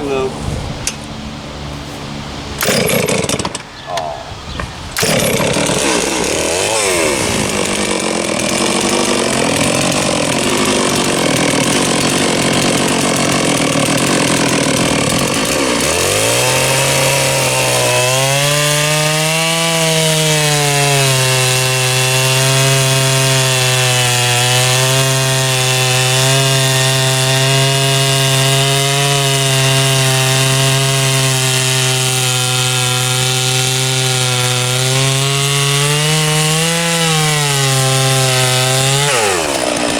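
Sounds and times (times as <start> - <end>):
chainsaw cutting log: 2.6 - 39.9.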